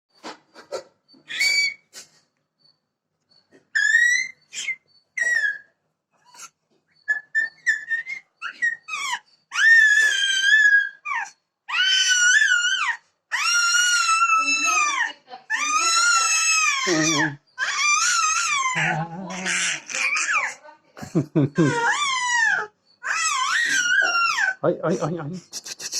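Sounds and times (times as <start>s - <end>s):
baby squealing: 0.7s - 2.0s, 3.7s - 6.5s, 7.1s - 20.6s, 21.5s - 25.1s.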